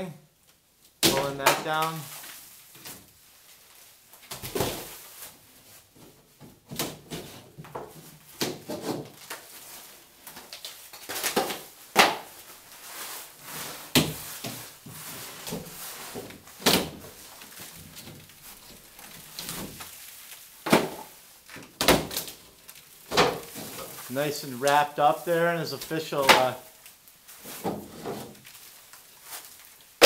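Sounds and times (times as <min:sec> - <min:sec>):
ceiling panels cracking and thudding: 0:00.9 - 0:30.0.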